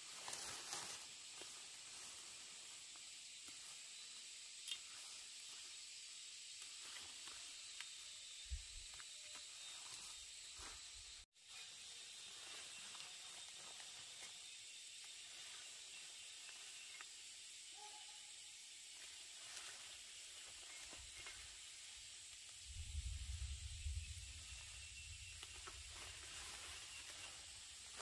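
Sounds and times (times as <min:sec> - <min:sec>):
high-pitched hiss: 0:00.0 - 0:28.0.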